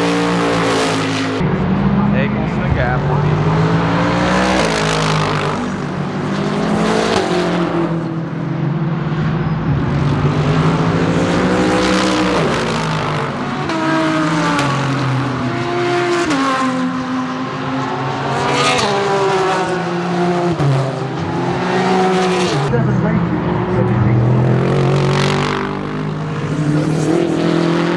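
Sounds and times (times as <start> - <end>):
race cars passing: 0.0 - 27.9.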